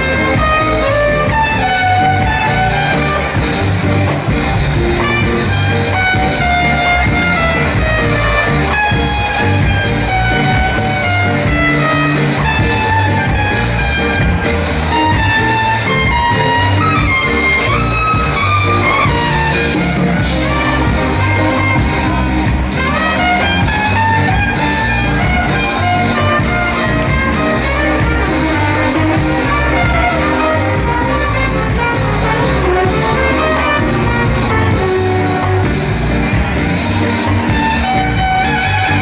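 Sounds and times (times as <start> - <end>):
drum kit beat: 0.0 - 39.0
ska band playing: 0.0 - 39.0
trumpet lead: 0.0 - 39.0.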